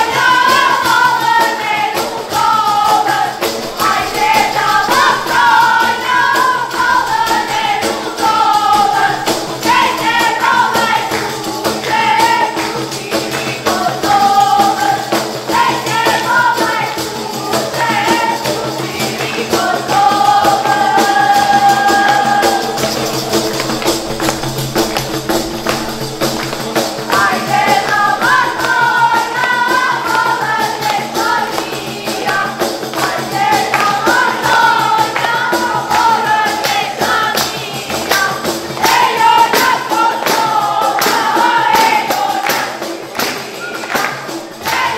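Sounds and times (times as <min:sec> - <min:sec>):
frame drums beating: 0:00.0 - 0:44.9
women singing: 0:00.0 - 0:44.9.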